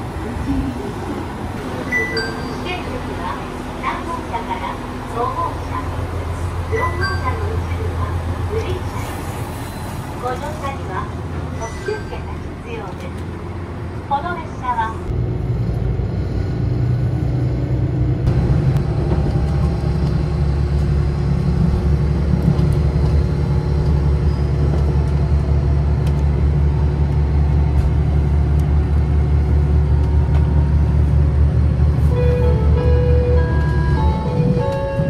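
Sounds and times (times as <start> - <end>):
train engine and running rumble: 0.0 - 35.0.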